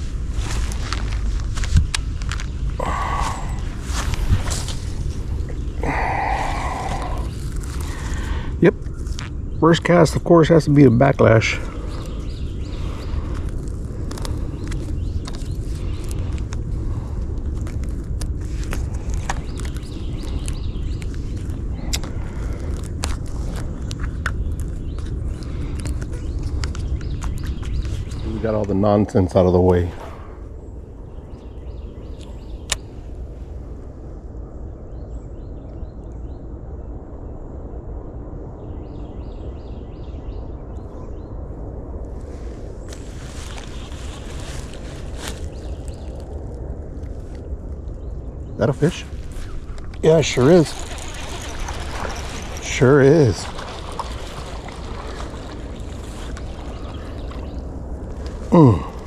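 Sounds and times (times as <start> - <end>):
low outdoor rumble: 0.0 - 59.0
wind buffeting microphone: 0.0 - 59.0.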